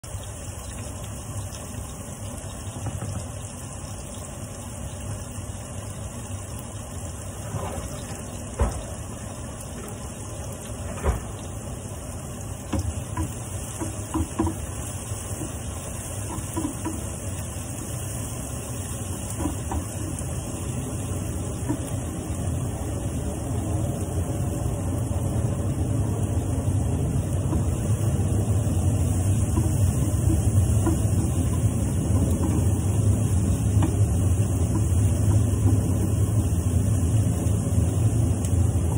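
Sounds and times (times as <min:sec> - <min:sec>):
stovetop hum and hiss: 0:00.0 - 0:38.9.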